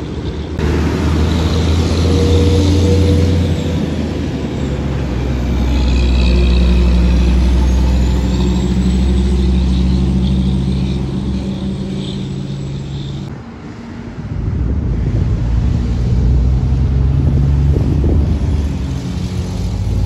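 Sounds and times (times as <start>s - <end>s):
truck diesel engine droning: 0.0s - 13.3s, 14.8s - 20.0s.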